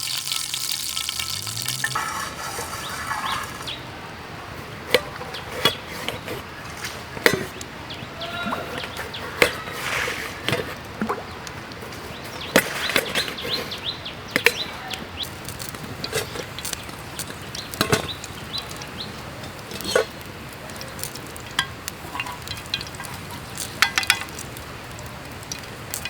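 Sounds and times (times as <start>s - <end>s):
small birds chirping: 1.0s - 26.0s.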